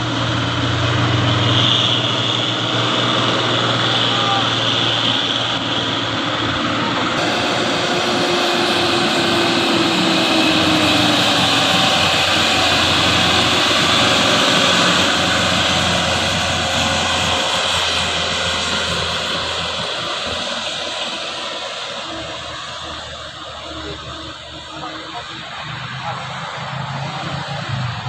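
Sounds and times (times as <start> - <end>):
diesel truck engine whining: 0.0 - 28.0.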